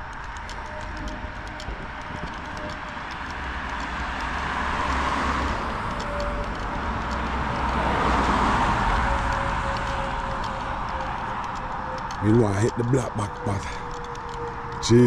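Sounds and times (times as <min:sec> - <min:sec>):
cars passing: 0:00.0 - 0:15.0.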